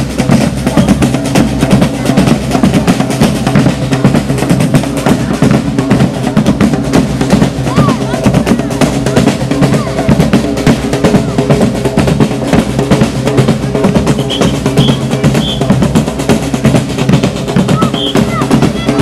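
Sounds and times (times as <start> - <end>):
marching drums beating: 0.0 - 19.0.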